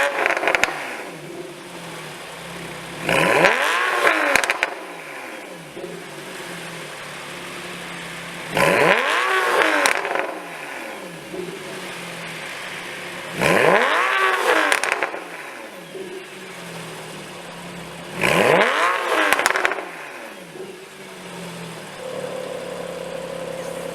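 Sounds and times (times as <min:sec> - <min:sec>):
car engine idling: 0:00.0 - 0:23.9
car engine revving: 0:00.0 - 0:23.9.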